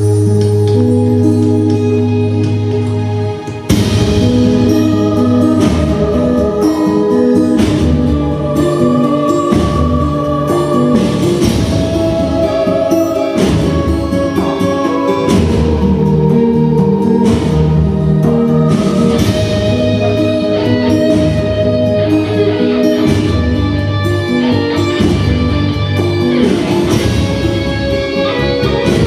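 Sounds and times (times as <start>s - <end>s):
guitar-led instrumental music: 0.0s - 29.0s.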